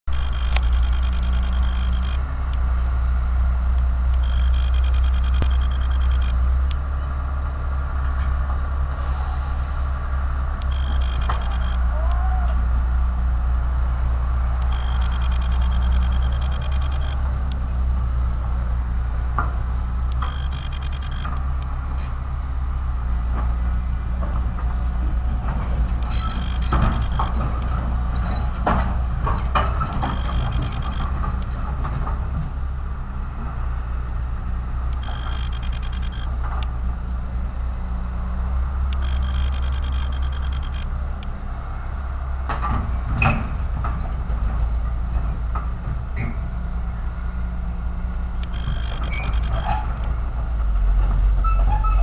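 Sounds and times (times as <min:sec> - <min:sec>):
distant diesel engine rumble: 0:00.0 - 0:52.0.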